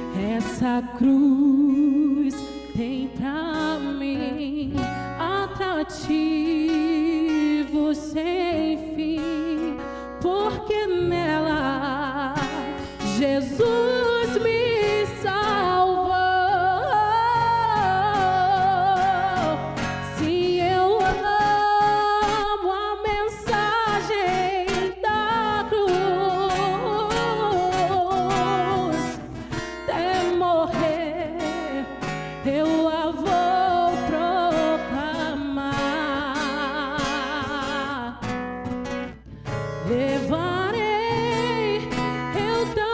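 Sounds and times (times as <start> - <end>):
woman singing with vibrato: 0.0 - 38.4, 39.7 - 42.9
acoustic guitar: 0.0 - 42.9.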